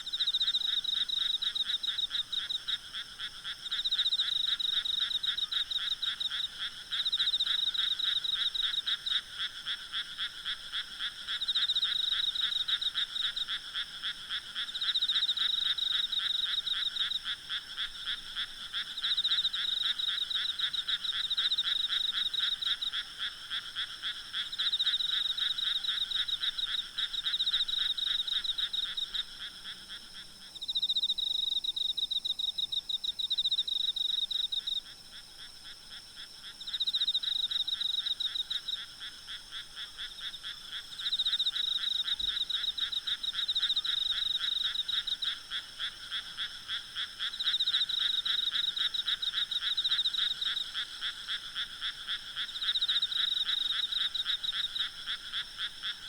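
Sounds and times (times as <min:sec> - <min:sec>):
faint insect chirring: 0:00.0 - 0:56.0
frogs calling in pulsed trills: 0:00.0 - 0:56.0.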